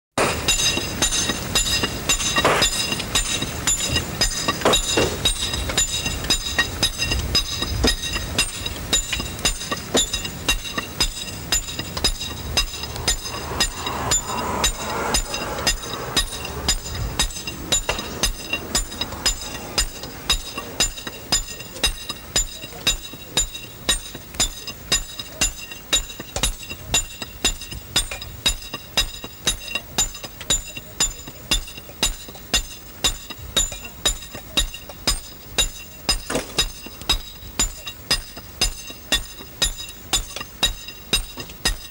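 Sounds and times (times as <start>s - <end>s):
hammers striking stones: 0.2s - 41.9s.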